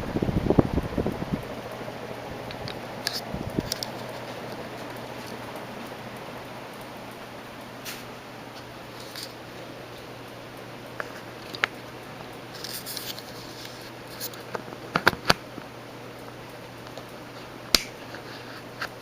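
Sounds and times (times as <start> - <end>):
ceiling fan humming: 0.0 - 19.0
sharp clicks of fan: 0.0 - 19.0.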